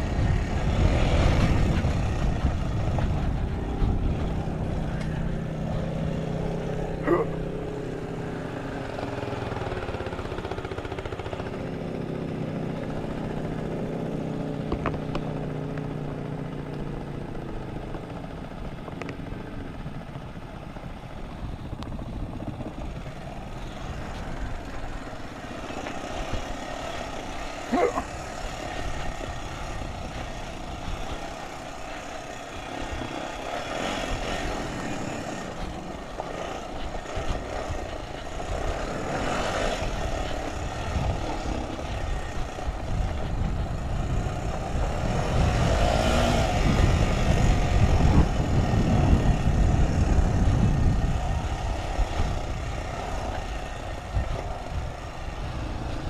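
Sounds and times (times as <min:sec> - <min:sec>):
quad engines running: 0:00.0 - 0:56.0
tyres on loose gravel: 0:00.0 - 0:56.0.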